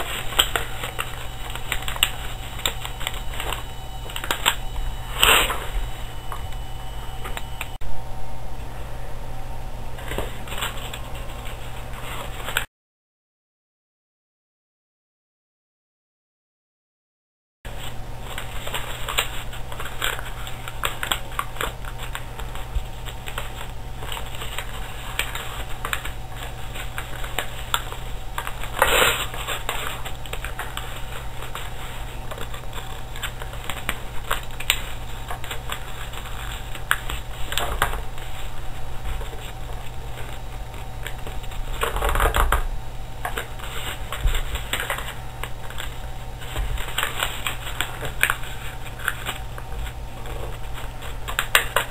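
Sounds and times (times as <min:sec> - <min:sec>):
paper crackling and rustling: 0:00.0 - 0:07.7, 0:10.0 - 0:12.7, 0:17.7 - 0:51.9
steady low hum: 0:00.0 - 0:12.7, 0:17.7 - 0:51.9.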